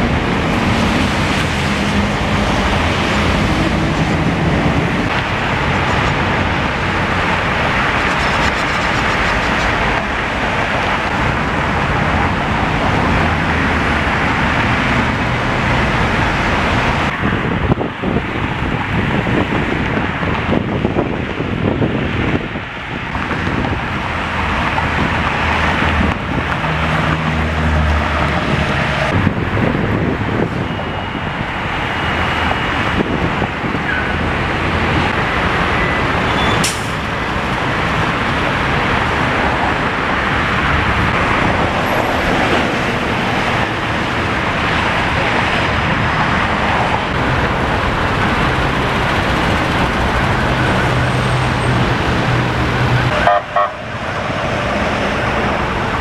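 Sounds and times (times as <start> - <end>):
dense traffic roar: 0.0 - 56.0
heavy vehicle engine drone: 0.0 - 56.0.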